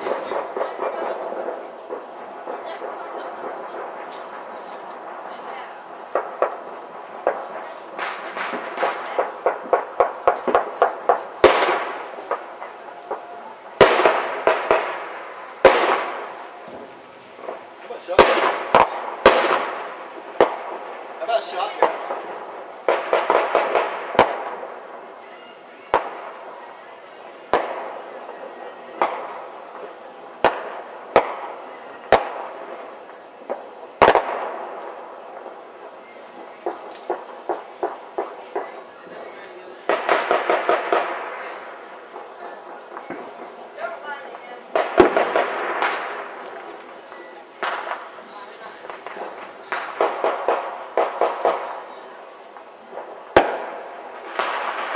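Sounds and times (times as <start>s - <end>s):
firecrackers popping: 0.0s - 54.9s
fireworks echoing bangs: 0.0s - 54.9s.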